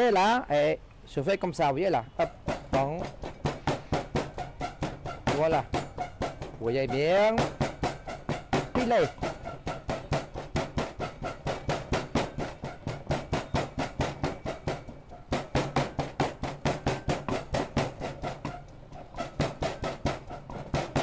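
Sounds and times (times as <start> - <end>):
pestle pounding in a mortar: 2.1 - 21.0.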